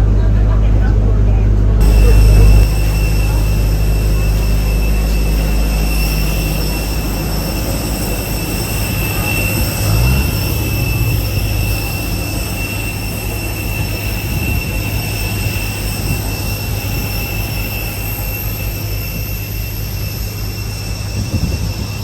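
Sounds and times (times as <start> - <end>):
jet airliner rumble and whine: 0.0 - 22.0.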